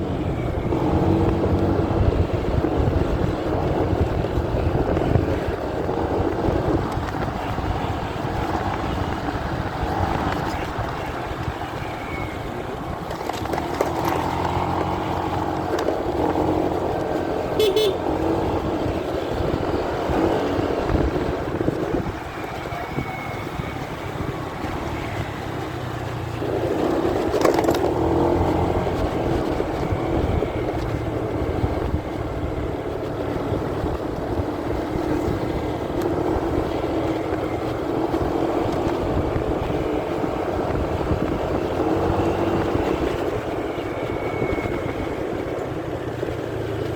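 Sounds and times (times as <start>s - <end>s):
muffled motorcycle engine: 0.0s - 46.9s
road and wind noise: 0.0s - 46.9s.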